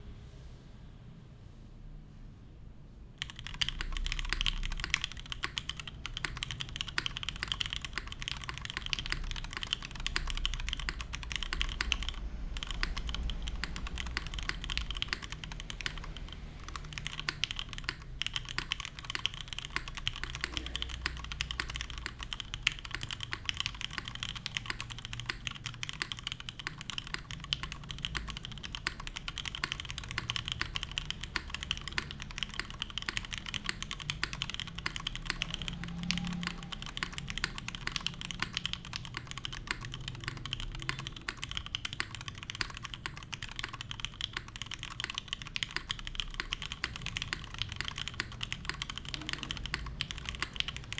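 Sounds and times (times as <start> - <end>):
fast typing on mechanical keyboard: 3.2 - 50.9.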